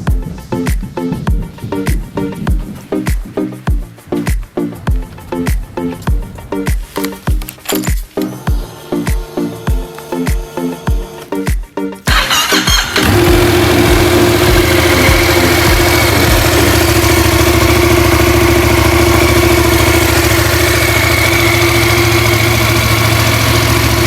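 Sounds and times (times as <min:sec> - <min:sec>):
motorcycle engine idling: 0:00.0 - 0:11.3, 0:12.1 - 0:24.0.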